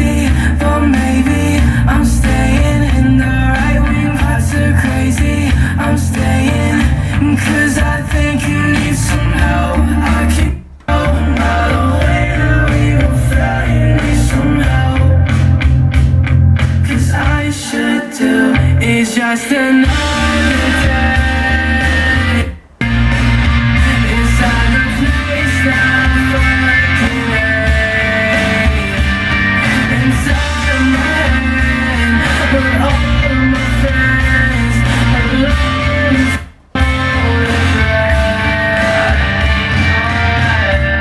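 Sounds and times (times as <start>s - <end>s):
rock song with guitar and singing: 0.0s - 41.0s.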